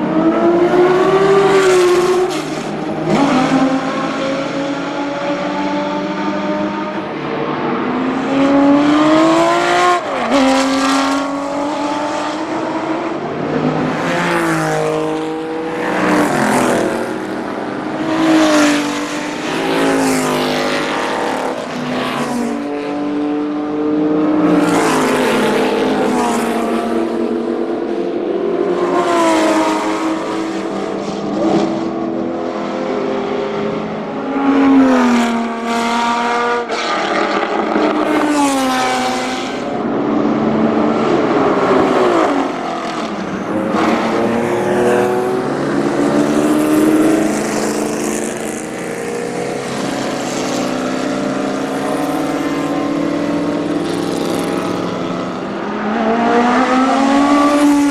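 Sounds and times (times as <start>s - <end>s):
race cars passing by: 0.0s - 57.9s.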